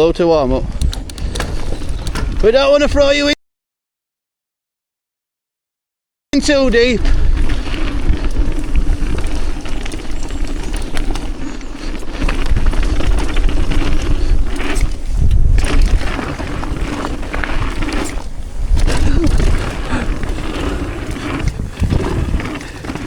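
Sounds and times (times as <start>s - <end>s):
wind buffeting microphone: 0.0s - 3.3s, 6.4s - 23.0s
bike tyres rattling on dirt trail: 0.4s - 3.1s, 6.4s - 23.0s.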